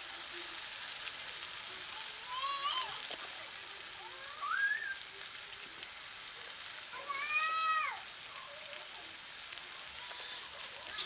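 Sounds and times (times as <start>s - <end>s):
chickpeas sizzling in pot: 0.0s - 11.0s.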